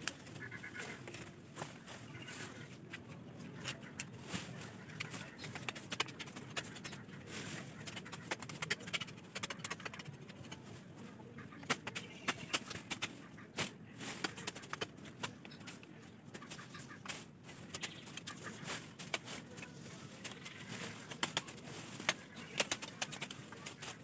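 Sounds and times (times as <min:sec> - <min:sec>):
rustling leaves and stalks: 0:00.0 - 0:24.0
plant stalks snapping: 0:02.9 - 0:10.6, 0:11.6 - 0:24.0.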